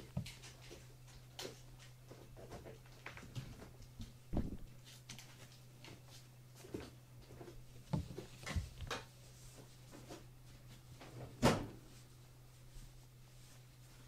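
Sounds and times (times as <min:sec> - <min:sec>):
kittens thumping and scuffling: 0:00.0 - 0:12.0
low steady hum: 0:00.0 - 0:14.0.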